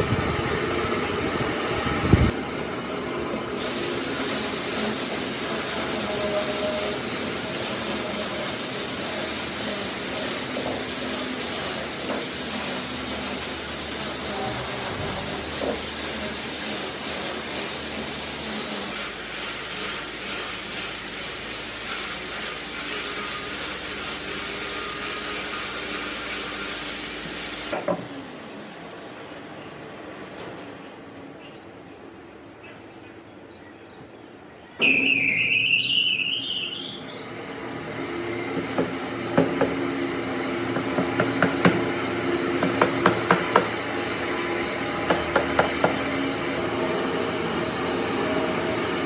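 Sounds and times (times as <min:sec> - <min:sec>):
loud hissing workshop equipment: 0:00.0 - 0:29.7, 0:34.8 - 0:49.0.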